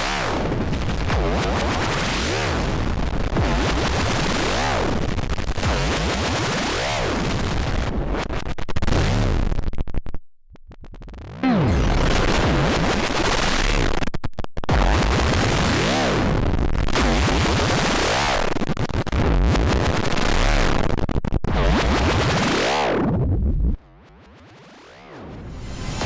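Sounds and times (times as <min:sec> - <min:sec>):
distorted electronic static: 0:00.0 - 0:26.0.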